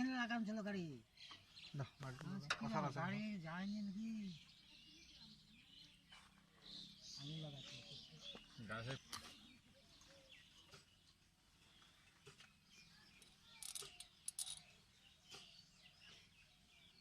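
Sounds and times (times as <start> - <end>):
faint bird chirps: 0.7 - 17.0.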